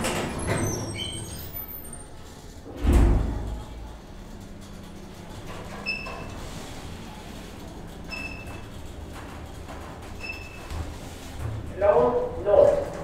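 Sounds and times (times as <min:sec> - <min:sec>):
elevator humming: 0:00.0 - 0:13.0.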